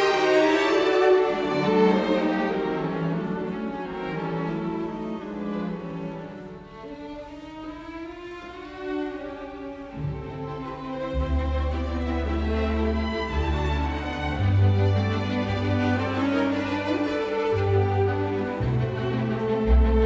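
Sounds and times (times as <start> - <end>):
bowed strings holding long notes: 0.0 - 20.0.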